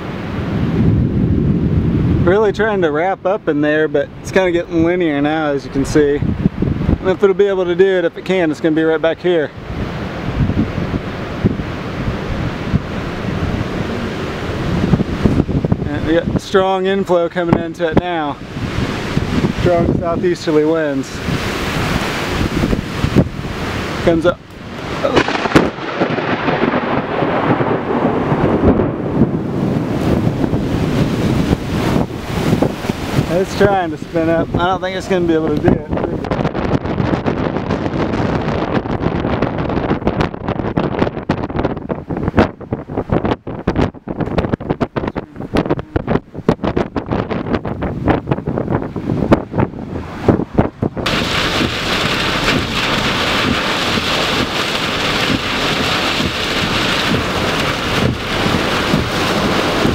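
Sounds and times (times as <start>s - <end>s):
thunder rumbling: 0.0s - 7.7s, 9.5s - 59.9s
wind gusting on microphone: 0.0s - 59.9s
heavy rain pelting vehicle: 8.1s - 59.9s.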